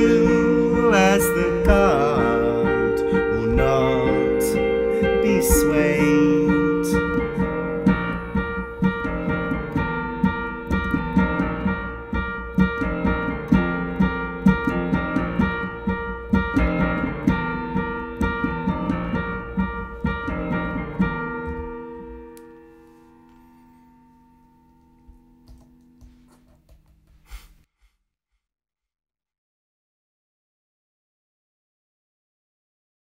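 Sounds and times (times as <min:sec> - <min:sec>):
electric piano playing chords: 0:00.0 - 0:27.0.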